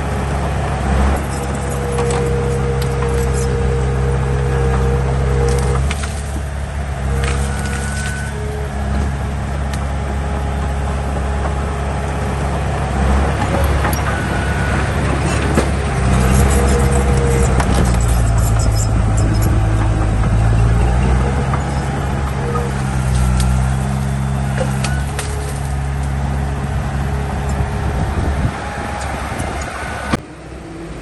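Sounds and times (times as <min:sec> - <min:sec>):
heavy diesel engine under load: 0:00.0 - 0:31.0.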